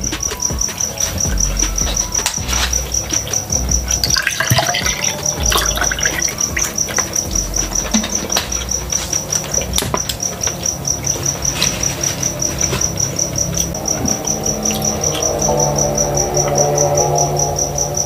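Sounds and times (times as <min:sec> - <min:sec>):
close-up chewing and mouth sounds: 0:00.0 - 0:15.7
cricket chirping: 0:00.0 - 0:18.0.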